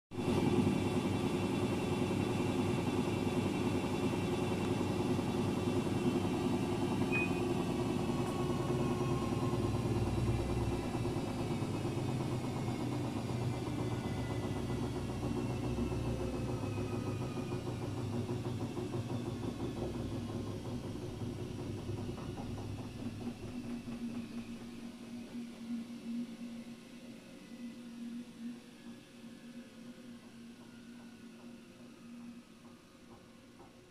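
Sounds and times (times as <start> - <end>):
washing machine spinning: 0.1 - 33.9.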